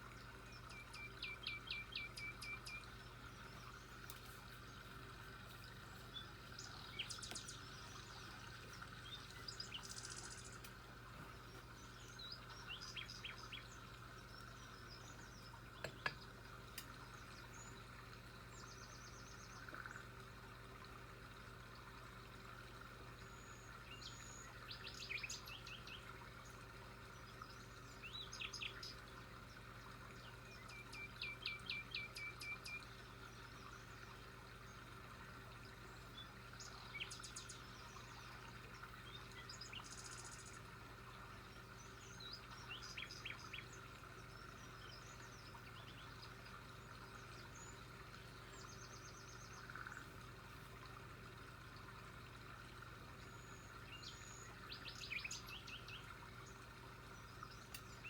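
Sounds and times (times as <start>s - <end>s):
small birds chirping and trilling: 0.1s - 20.2s, 23.2s - 50.3s, 52.6s - 58.0s.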